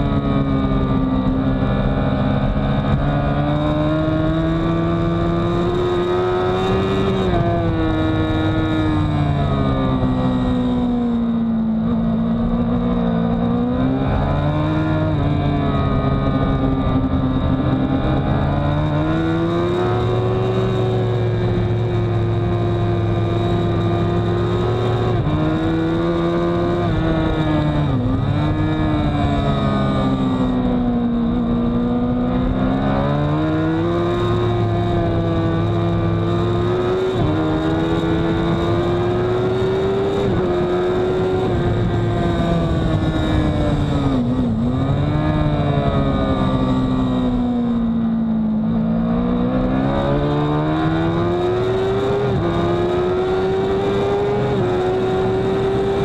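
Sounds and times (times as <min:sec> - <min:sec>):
motorcycle engine at race speed: 0:00.0 - 0:56.0.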